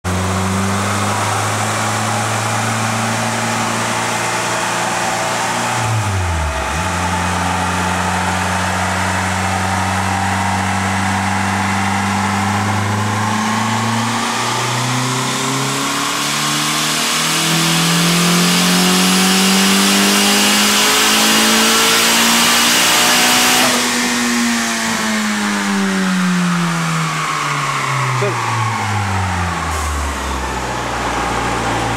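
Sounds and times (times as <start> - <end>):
car engine revving on dyno: 0.0 - 31.9.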